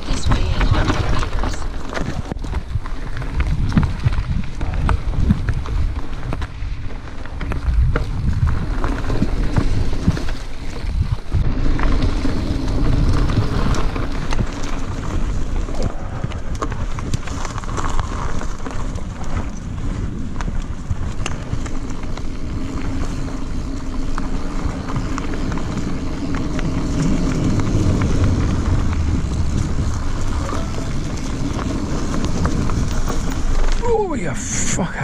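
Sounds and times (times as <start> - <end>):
bike clicks and rattles: 0.0 - 33.8
tyres rolling over earth and leaves: 0.0 - 35.0
wind buffeting microphone: 0.0 - 35.0.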